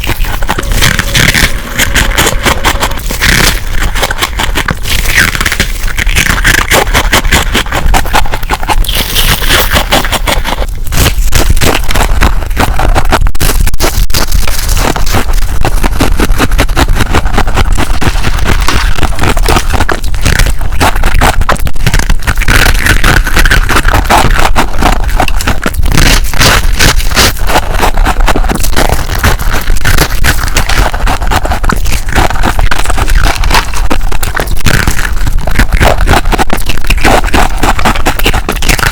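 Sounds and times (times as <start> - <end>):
freezer frost crunching: 0.0 - 38.9.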